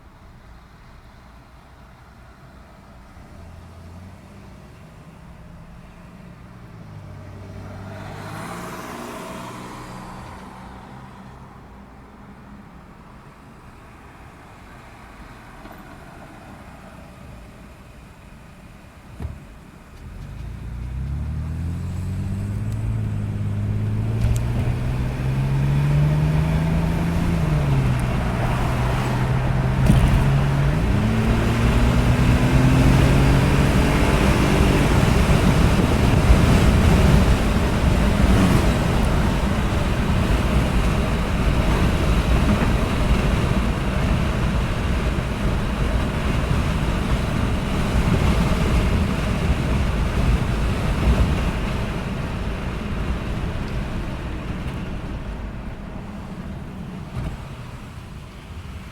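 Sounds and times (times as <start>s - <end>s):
road and wind noise: 0.0s - 58.9s
car engine accelerating: 3.2s - 11.7s, 19.8s - 58.9s.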